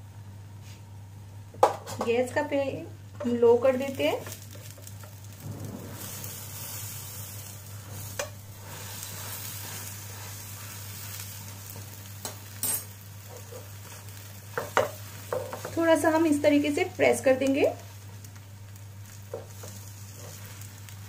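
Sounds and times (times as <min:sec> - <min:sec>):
egg batter sizzling in pan: 0:03.0 - 0:21.0.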